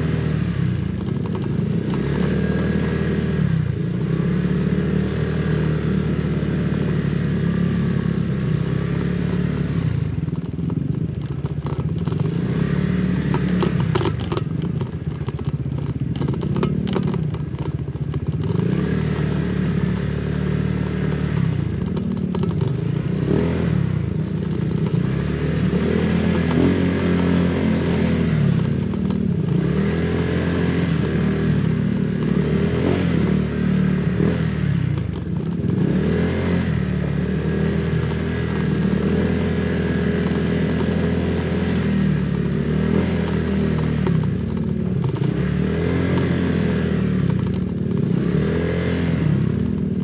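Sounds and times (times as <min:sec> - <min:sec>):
road and wind noise: 0:00.0 - 0:50.0
scooter engine running: 0:00.0 - 0:50.0.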